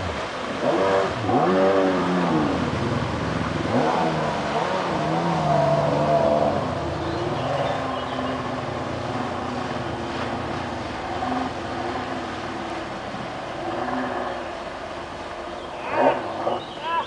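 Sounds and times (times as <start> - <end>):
jet ski engine running: 0.0 - 16.8.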